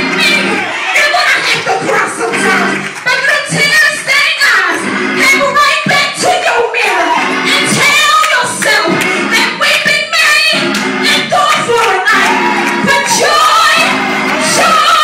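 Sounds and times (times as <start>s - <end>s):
woman singing gospel over loudspeakers: 0.0s - 15.0s.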